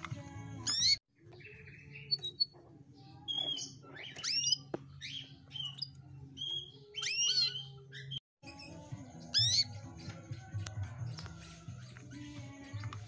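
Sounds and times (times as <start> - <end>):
canary chirping: 0.6 - 13.0.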